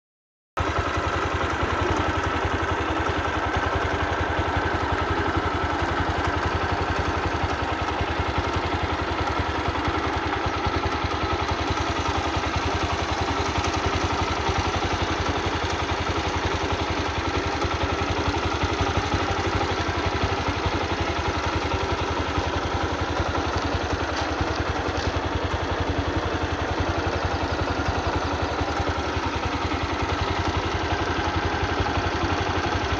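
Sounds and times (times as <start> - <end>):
engine idling: 0.6 - 32.9.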